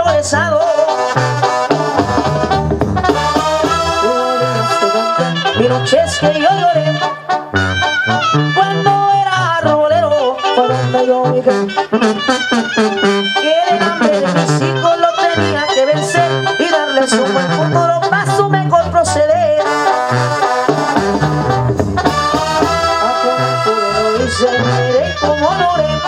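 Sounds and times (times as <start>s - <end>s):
brass band music: 0.0s - 26.0s.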